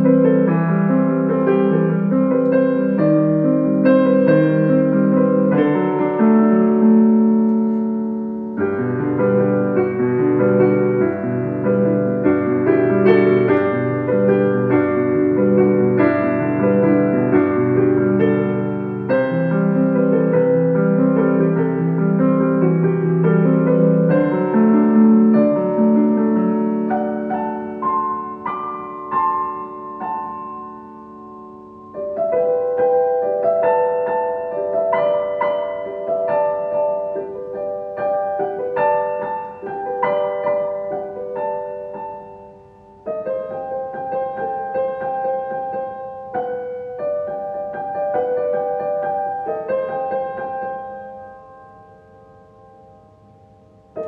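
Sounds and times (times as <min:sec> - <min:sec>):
solo piano chords: 0:00.0 - 0:54.0.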